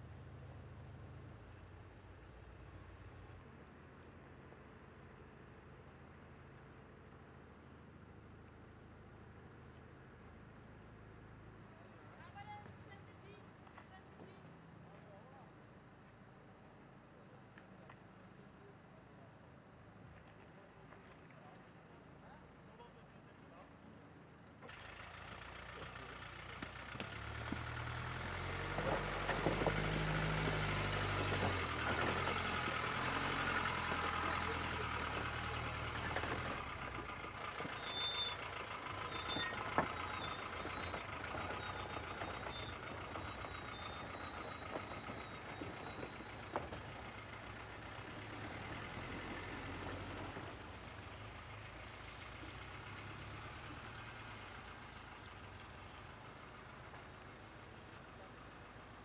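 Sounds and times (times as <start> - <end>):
utility vehicle engine driving slowly: 0.0 - 59.0.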